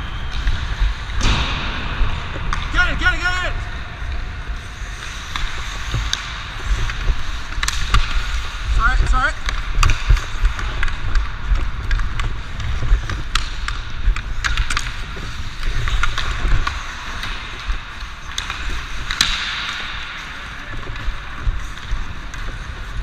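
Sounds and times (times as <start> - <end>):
stick and puck clicks on ice: 4.0 - 23.0
skate blades scraping ice: 4.3 - 23.0.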